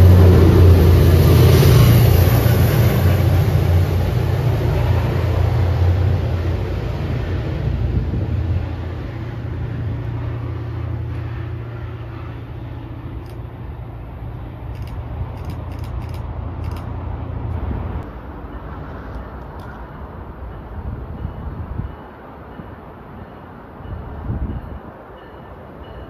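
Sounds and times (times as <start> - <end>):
train drone and rumble: 0.0 - 26.0.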